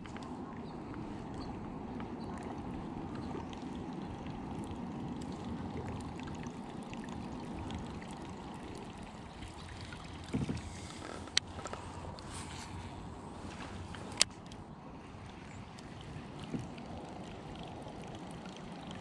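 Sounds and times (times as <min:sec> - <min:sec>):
river water washing around kayak: 0:00.0 - 0:19.0
small splashes: 0:02.2 - 0:19.0.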